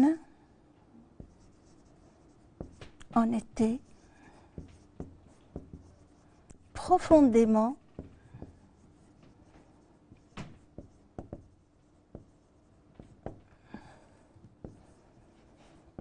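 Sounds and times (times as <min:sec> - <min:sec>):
marker pen writing on whiteboard: 0:01.2 - 0:16.0.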